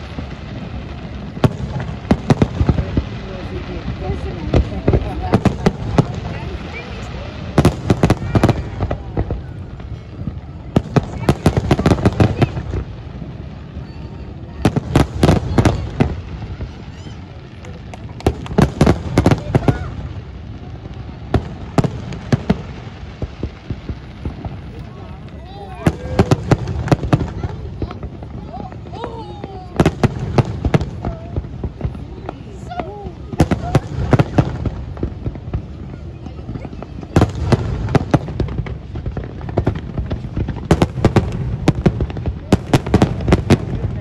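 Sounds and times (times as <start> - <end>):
fireworks bangs: 0.0 - 44.0
small firework pops: 0.0 - 44.0.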